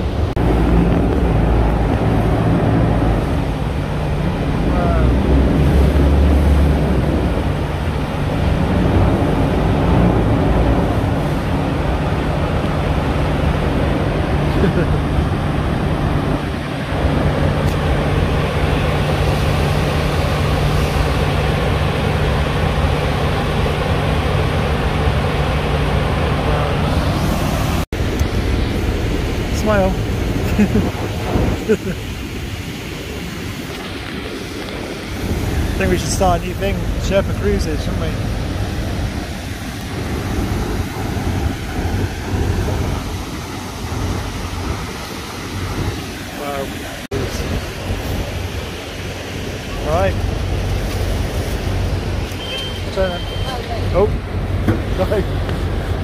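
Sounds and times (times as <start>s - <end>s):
boat engine humming: 0.0s - 56.0s
water roaring over weir: 0.0s - 56.0s.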